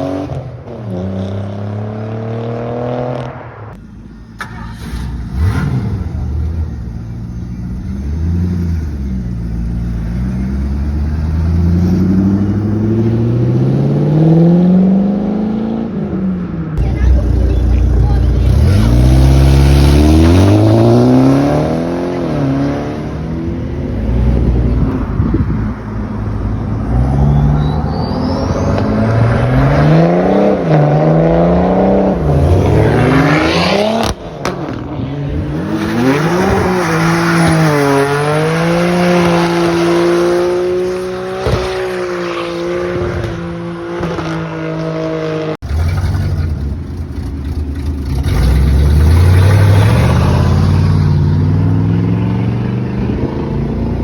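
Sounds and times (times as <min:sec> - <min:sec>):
car engines revving and accelerating: 0:00.0 - 0:54.0.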